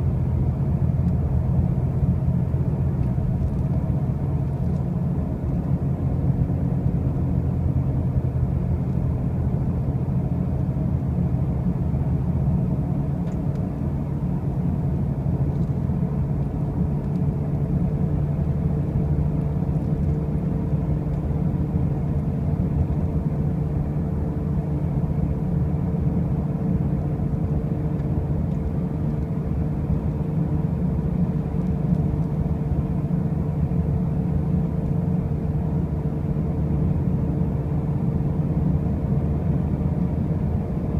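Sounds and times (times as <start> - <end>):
car driving with low drone: 0.0 - 40.9.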